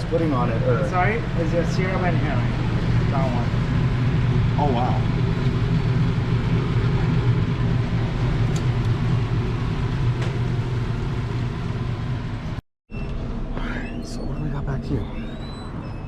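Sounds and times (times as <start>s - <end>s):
low mechanical hum and rumble: 0.0s - 16.0s.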